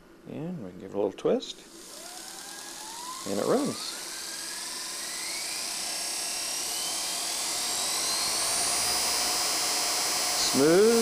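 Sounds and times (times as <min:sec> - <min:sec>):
electric motor whine rising: 0:01.7 - 0:11.0.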